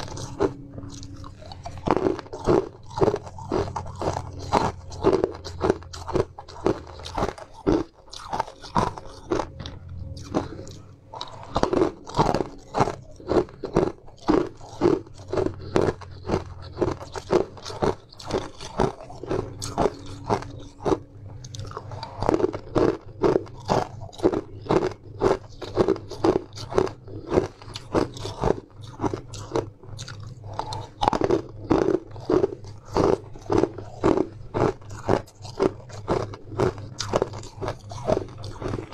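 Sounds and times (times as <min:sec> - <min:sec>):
ice crunching between teeth: 0:00.0 - 0:38.9
quiet chewing: 0:00.0 - 0:38.9.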